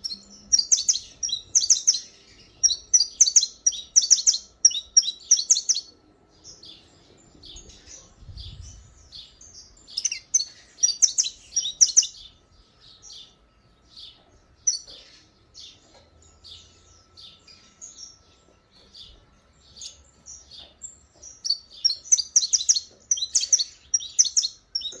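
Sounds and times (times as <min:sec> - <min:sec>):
faint steady hum: 0:00.0 - 0:25.0
finch chirping: 0:00.0 - 0:25.0.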